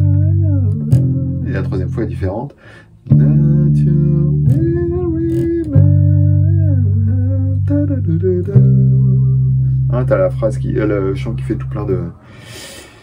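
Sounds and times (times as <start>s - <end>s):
electric bass guitar notes: 0.0s - 13.0s.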